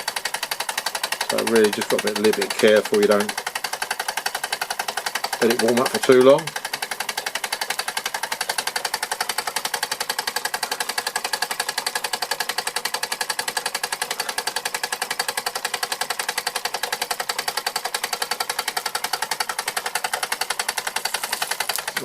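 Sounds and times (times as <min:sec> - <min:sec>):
toy steam engine clatter: 0:00.0 - 0:22.0.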